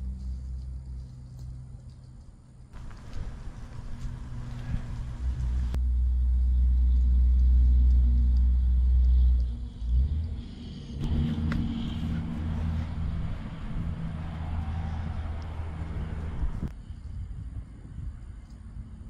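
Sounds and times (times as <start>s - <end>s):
deep steady rumble: 0.0s - 19.0s
faint low hum: 0.0s - 19.0s.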